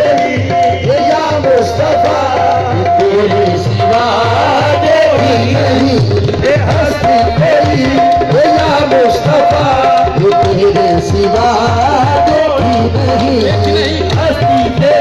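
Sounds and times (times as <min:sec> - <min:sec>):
harmonium held note: 0:00.0 - 0:15.0
voices singing wavering melody: 0:00.0 - 0:15.0.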